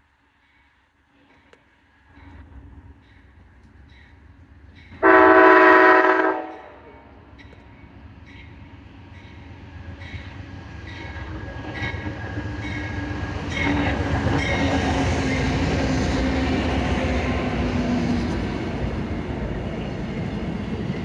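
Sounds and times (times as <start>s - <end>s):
diesel train engine hum: 0.0s - 21.0s
train cars rumbling on rails: 1.2s - 21.0s.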